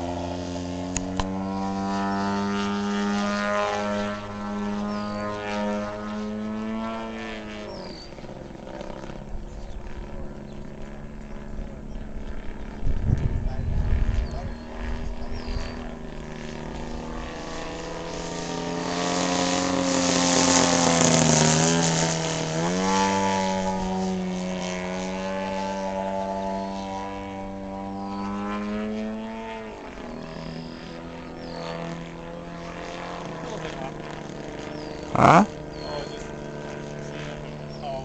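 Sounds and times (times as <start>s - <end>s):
model plane engine droning: 0.0s - 38.0s.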